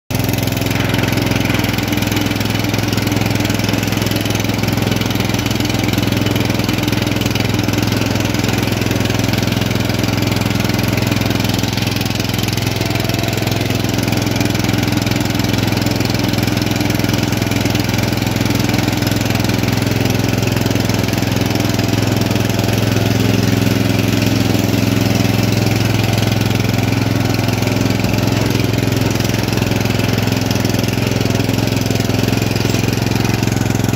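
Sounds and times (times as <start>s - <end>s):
lawn tractor engine running: 0.1s - 33.9s.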